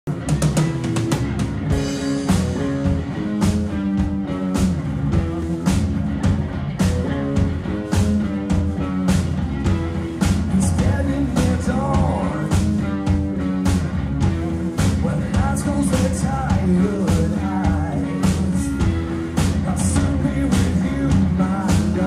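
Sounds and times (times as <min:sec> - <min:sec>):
bass guitar: 0:00.0 - 0:22.0
drum kit beat: 0:00.1 - 0:22.0
electric guitar: 0:00.1 - 0:22.0.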